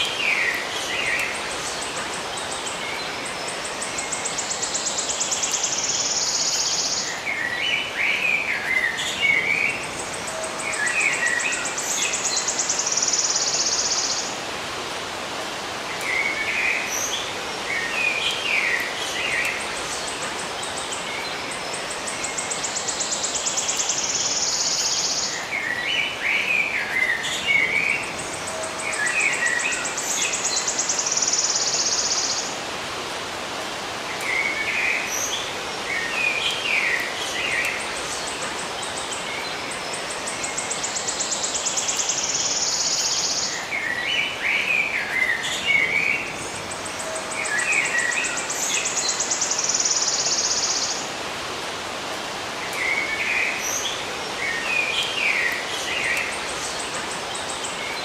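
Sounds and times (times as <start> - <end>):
songbirds chirping: 0.0 - 58.0
steady hiss: 0.0 - 58.0.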